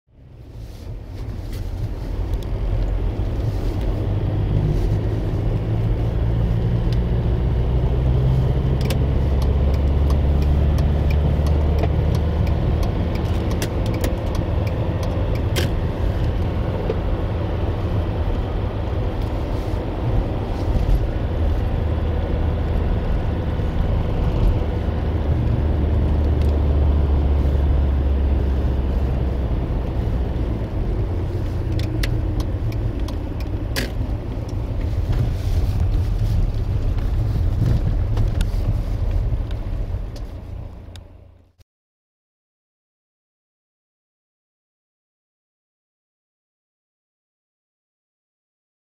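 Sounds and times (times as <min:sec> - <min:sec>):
engine and tyre rumble: 0:00.1 - 0:41.6.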